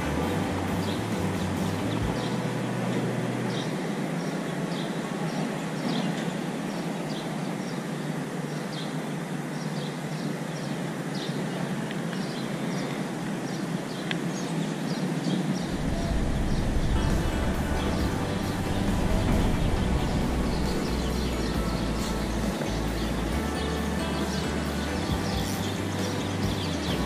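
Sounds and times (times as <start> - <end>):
rushing outdoor noise: 0.0 - 27.0.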